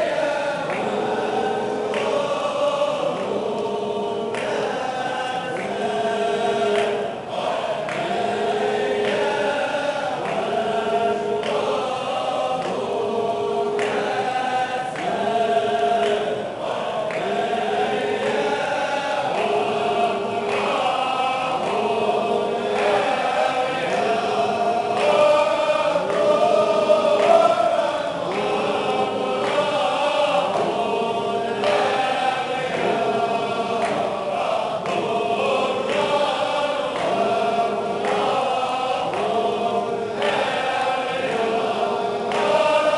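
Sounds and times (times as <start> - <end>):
men chanting in unison: 0.0 - 42.9.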